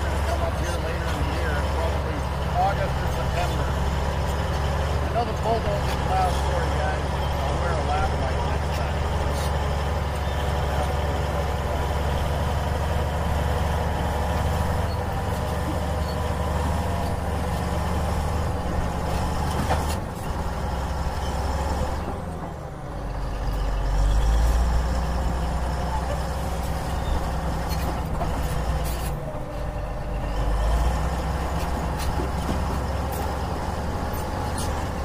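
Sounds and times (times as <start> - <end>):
heavy diesel engine humming: 0.0 - 35.0.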